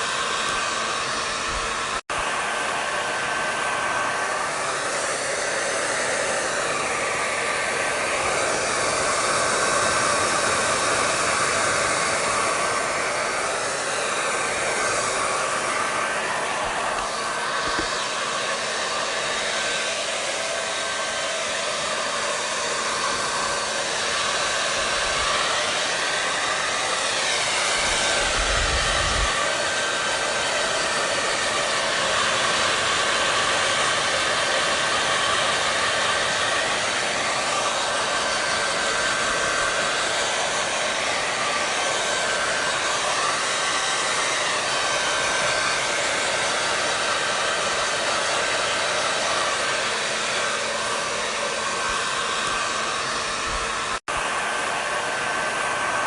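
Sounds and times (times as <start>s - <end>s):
blow dryer running: 0.0s - 56.0s.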